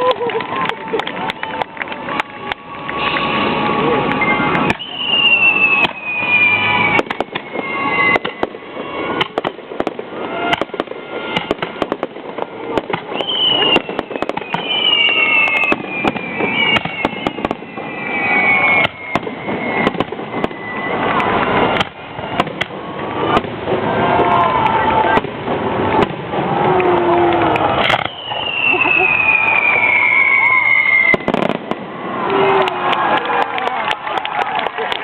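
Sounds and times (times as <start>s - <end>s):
fireworks bangs and crackles: 0.0s - 35.0s
whistling fireworks sliding down: 0.0s - 35.0s.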